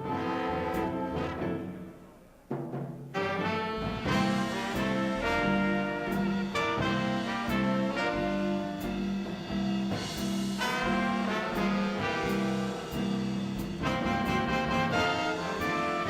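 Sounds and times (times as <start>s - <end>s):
swing band playing: 0.0s - 16.0s.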